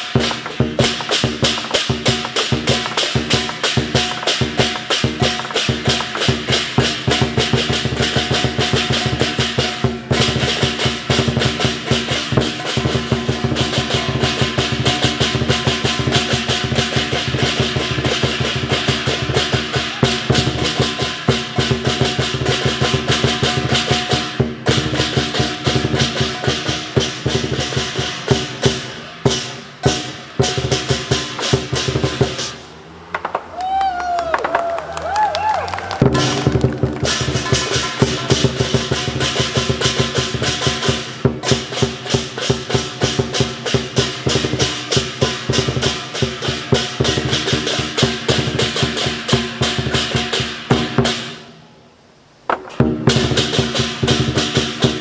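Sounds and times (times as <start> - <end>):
crashing cymbals: 0.0 - 33.0, 36.0 - 51.6, 52.7 - 55.0
big drum rolls: 0.0 - 51.5, 52.5 - 55.0.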